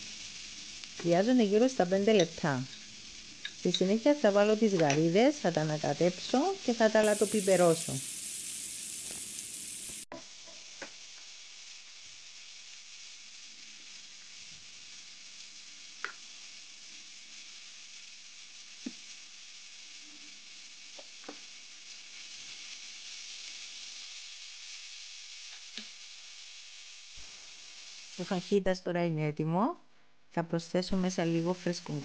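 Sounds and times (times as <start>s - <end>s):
food sizzling in a frying pan: 0.0s - 28.9s, 30.9s - 32.0s.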